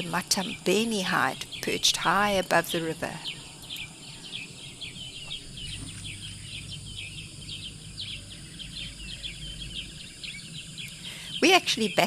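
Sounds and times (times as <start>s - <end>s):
steady low rumble: 0.0s - 11.7s
wild birds chirping: 0.0s - 12.0s.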